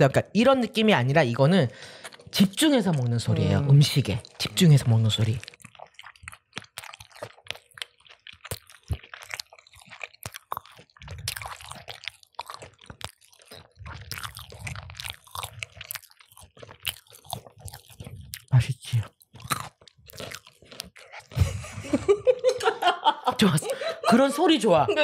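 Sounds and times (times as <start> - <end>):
crunching and chewing fried chicken: 1.2 - 21.6.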